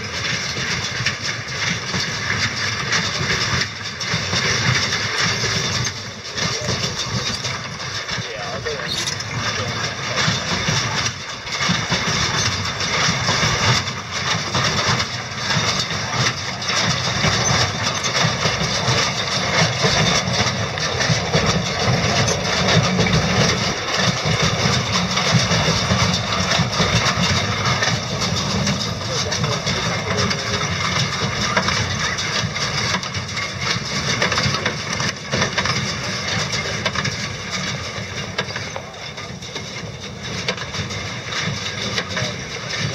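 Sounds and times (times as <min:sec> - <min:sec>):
hay baler clattering: 0:00.0 - 0:42.9.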